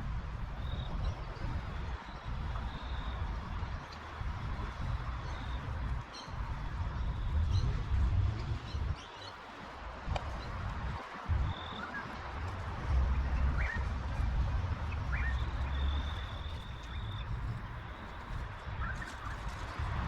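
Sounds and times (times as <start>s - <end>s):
low uneven rumble: 0.0s - 9.0s, 9.8s - 20.0s
birds chirping: 0.6s - 9.7s, 10.3s - 19.4s.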